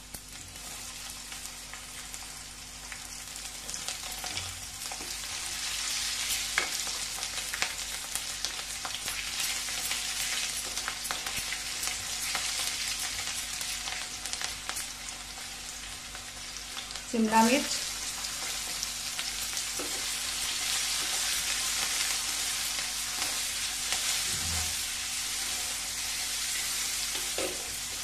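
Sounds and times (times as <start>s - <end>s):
chillies sizzling in hot oil: 0.0s - 28.0s.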